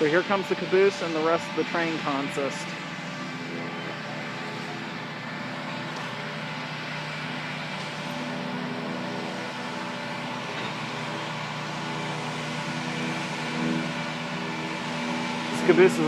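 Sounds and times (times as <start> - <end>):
diesel engine drone: 0.0 - 16.0.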